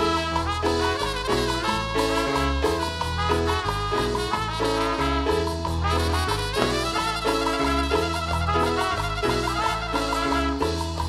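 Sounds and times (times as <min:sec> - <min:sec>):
cumbia band music: 0:00.0 - 0:11.0
steady bass line: 0:00.0 - 0:11.0
trumpets: 0:00.0 - 0:11.0.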